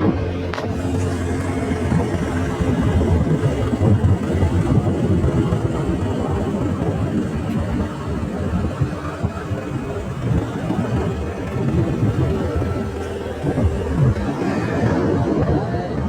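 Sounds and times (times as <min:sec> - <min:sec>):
road rumble: 0:00.0 - 0:16.0
vehicle engine running: 0:00.0 - 0:16.0.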